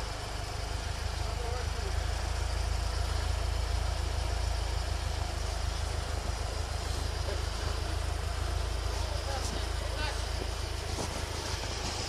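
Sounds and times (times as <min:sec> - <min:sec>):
off-road vehicle engine idling: 0:00.0 - 0:12.0.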